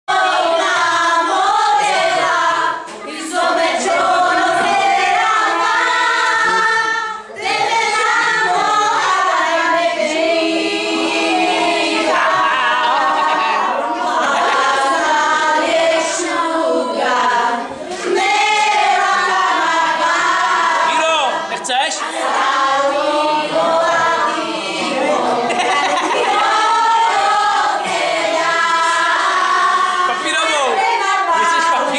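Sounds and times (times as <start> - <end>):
group of voices singing: 0.1 - 31.9.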